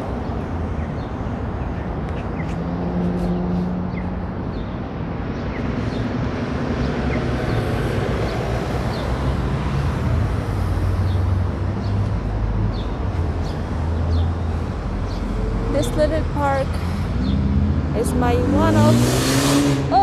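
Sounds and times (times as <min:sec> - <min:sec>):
cars passing: 0:00.0 - 0:20.0.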